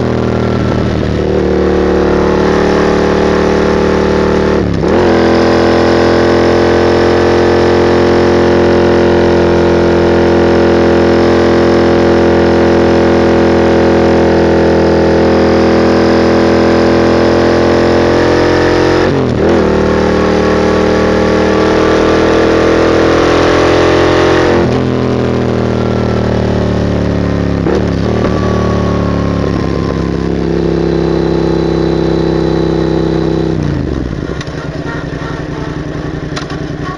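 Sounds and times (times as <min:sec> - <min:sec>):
loud motorcycle engine revving: 0:00.0 - 0:36.9.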